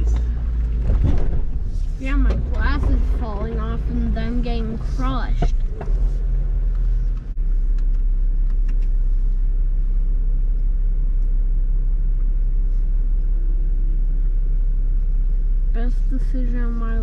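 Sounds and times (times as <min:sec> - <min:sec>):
engine rumbling low: 0:00.0 - 0:17.0.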